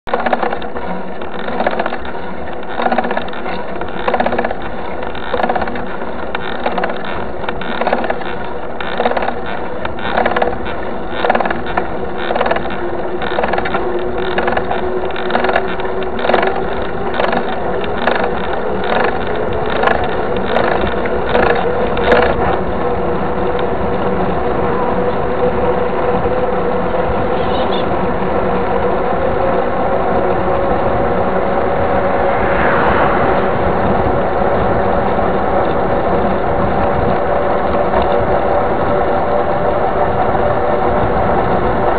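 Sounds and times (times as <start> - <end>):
bike tyres rolling on asphalt: 0.1 - 41.9
wind noise: 0.1 - 41.9.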